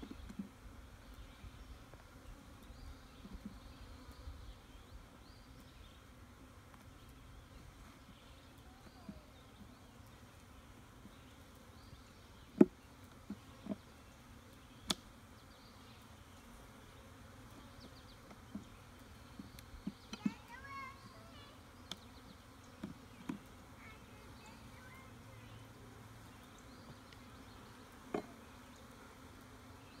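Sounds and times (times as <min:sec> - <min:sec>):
honeybees humming: 0:00.0 - 0:30.0.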